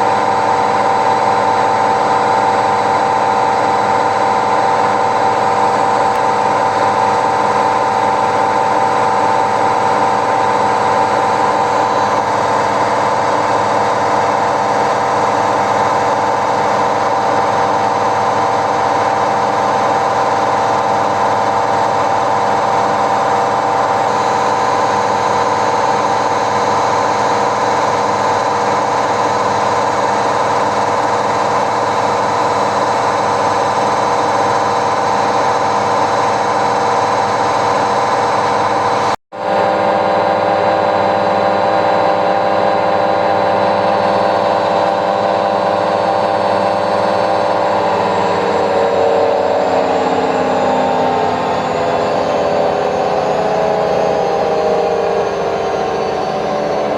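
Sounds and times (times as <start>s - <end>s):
washing machine running with loud hum: 0.0s - 56.9s.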